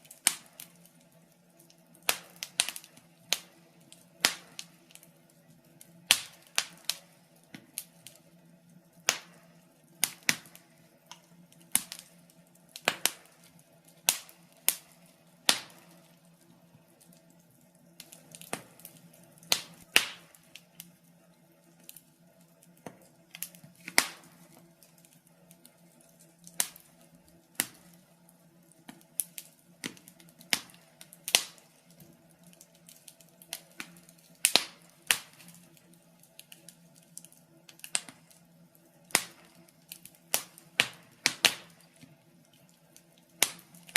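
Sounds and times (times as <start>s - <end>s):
faint steady hum: 0.0s - 43.9s
wood fire crackling and popping: 0.0s - 43.9s.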